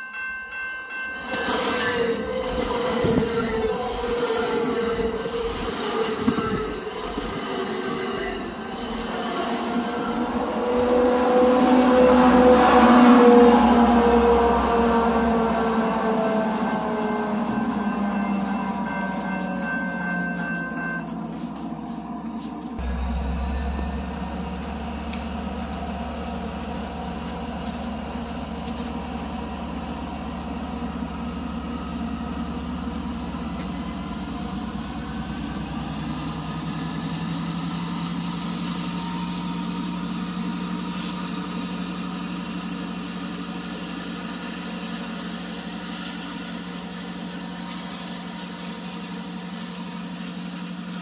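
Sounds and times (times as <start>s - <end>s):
diesel locomotive engine hum: 0.0s - 51.0s
high whine: 1.3s - 51.0s.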